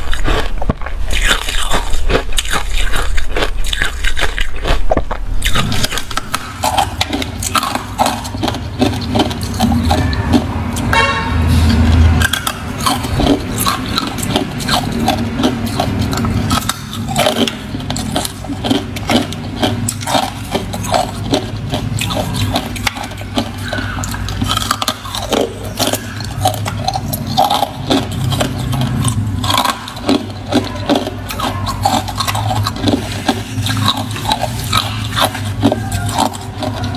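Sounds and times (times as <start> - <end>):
chewing crunchy ice: 0.0 - 36.9
low steady rumble: 0.0 - 36.9.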